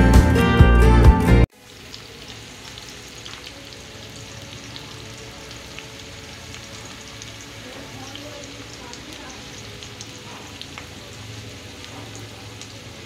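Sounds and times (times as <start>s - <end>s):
music: 0.0s - 1.5s, 3.0s - 12.0s
oil crackling: 1.5s - 13.0s
onions sizzling in hot oil: 1.5s - 13.0s.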